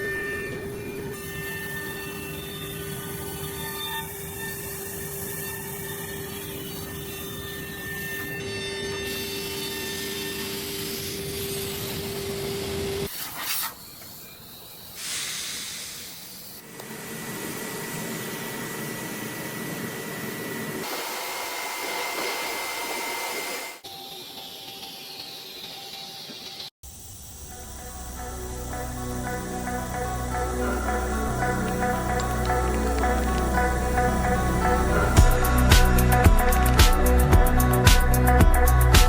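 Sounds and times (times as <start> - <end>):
machine hum with hiss: 0.0 - 38.9.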